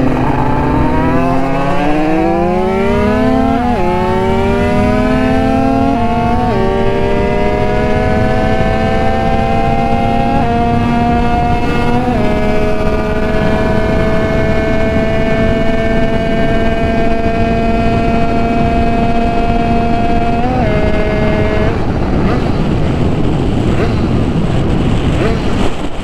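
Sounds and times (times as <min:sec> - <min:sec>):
motorcycle engine revving high: 0:00.0 - 0:26.0
wind rush on microphone: 0:00.0 - 0:26.0.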